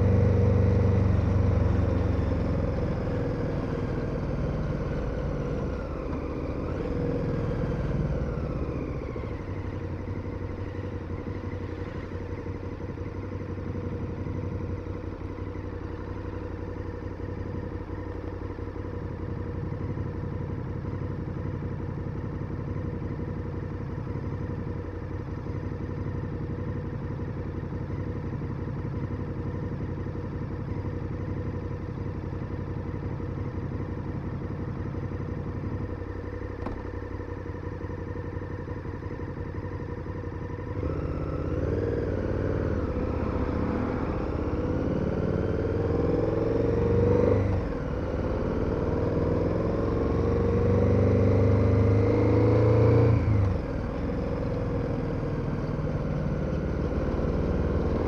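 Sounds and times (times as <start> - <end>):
motorcycle engine idling: 0.0 - 47.0, 53.2 - 58.0.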